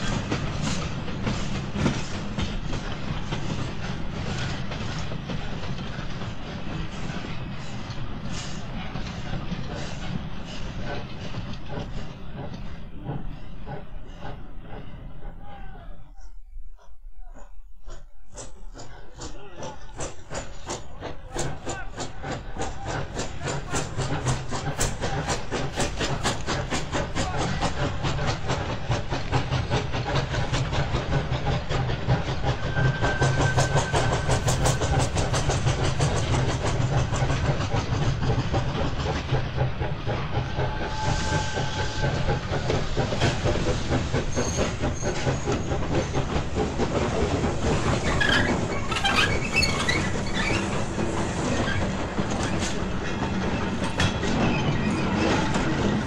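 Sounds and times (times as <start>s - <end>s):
train rumble: 0.0s - 56.0s
train wheels clickety-clack: 0.0s - 56.0s.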